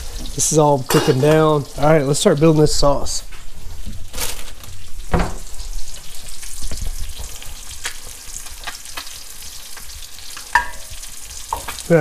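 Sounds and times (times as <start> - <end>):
butter sizzling in skillet: 0.0 - 12.0.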